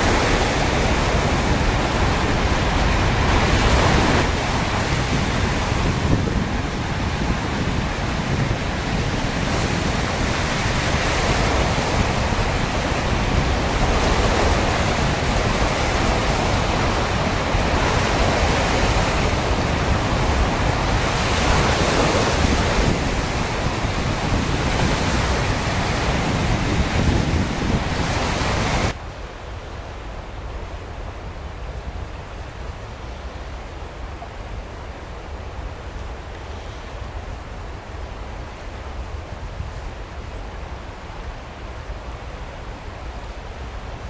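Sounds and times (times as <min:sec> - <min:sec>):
river rushing: 0:00.0 - 0:44.0
wind buffeting microphone: 0:00.0 - 0:44.0.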